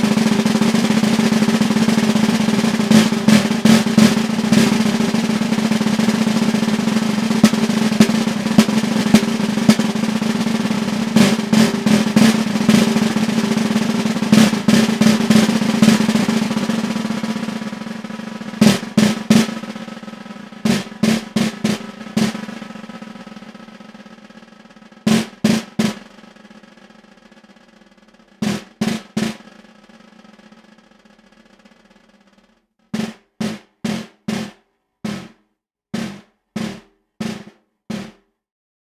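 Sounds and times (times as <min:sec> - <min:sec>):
snare drum roll: 0:00.0 - 0:35.4, 0:36.0 - 0:38.3
sharp snare drum strokes: 0:00.0 - 0:38.3.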